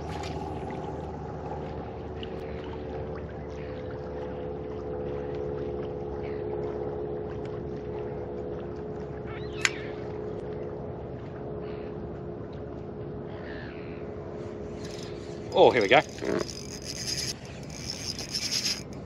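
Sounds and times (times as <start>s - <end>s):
boat motor humming: 0.0s - 19.0s
water: 0.0s - 19.0s.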